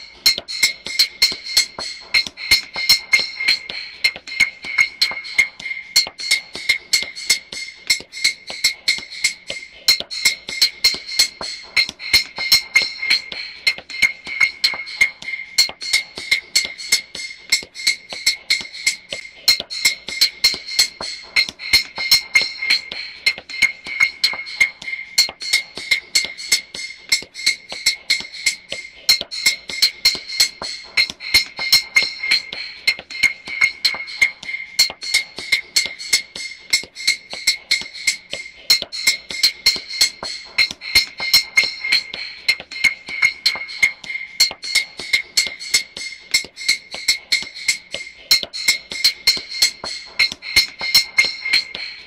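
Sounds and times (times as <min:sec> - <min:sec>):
sharp percussive clicks: 0:00.0 - 0:52.0.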